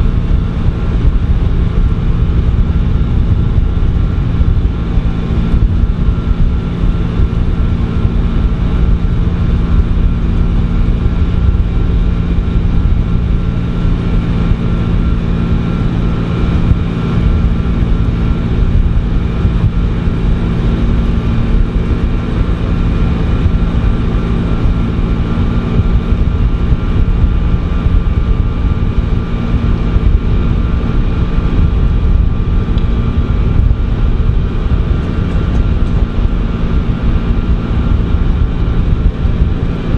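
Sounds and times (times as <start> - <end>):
diesel engine constant tone: 0.0 - 39.9
milling drum rumble on asphalt: 0.0 - 39.9.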